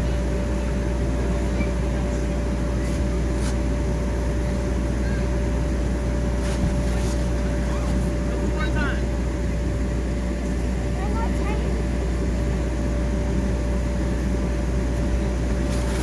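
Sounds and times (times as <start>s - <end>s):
air blower humming and whining: 0.0s - 16.0s.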